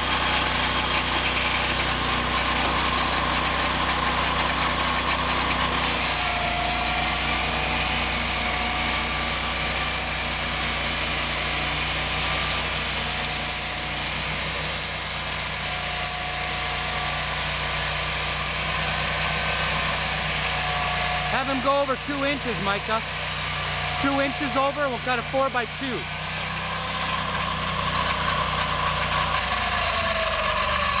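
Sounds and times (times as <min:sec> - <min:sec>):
sawmill engine running: 0:00.0 - 0:31.0.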